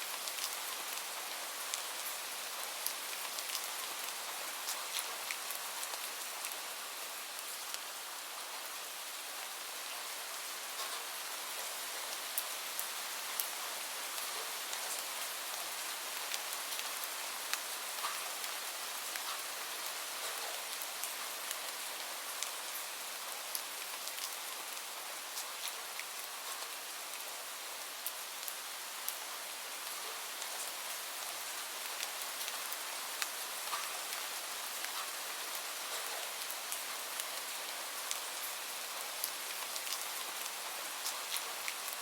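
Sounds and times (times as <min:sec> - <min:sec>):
steady rain hiss: 0:00.0 - 0:42.0
raindrops ticking on a surface: 0:00.1 - 0:42.0.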